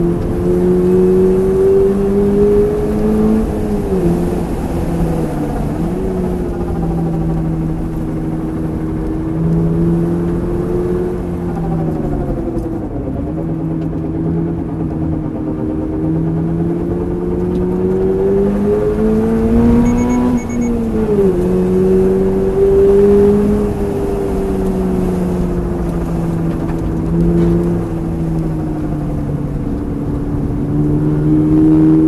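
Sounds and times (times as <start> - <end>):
car engine while driving: 0.0 - 32.0.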